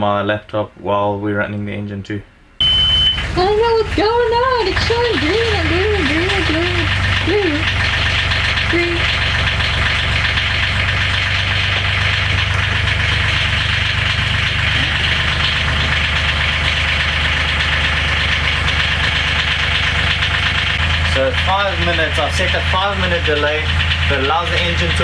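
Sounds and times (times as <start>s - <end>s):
boat engine idling: 2.6s - 25.0s.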